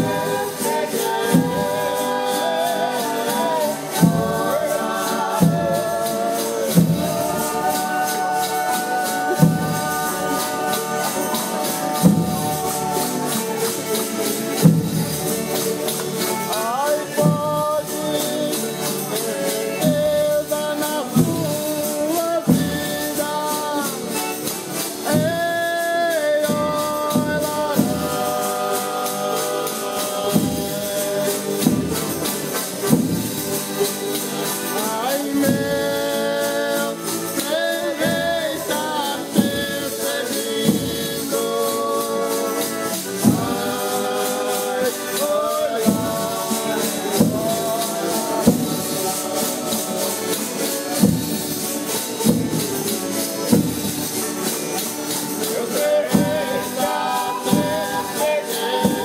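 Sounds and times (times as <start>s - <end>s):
group singing in several voices: 0.0s - 59.0s
shaken tambourine: 0.0s - 59.0s.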